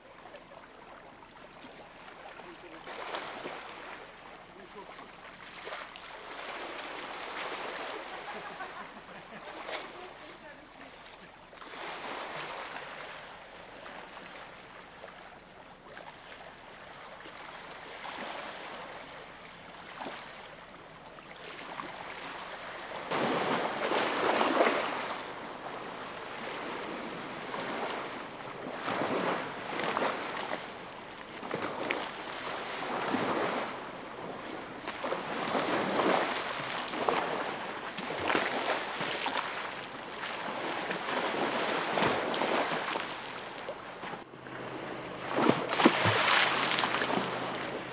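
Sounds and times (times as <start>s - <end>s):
waves breaking against quay: 0.0s - 15.2s, 21.3s - 47.9s.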